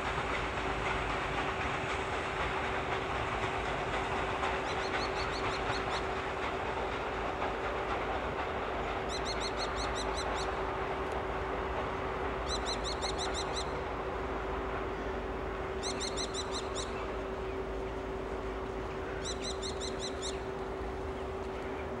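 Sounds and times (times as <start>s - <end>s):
steam train rumbling: 0.0s - 22.0s.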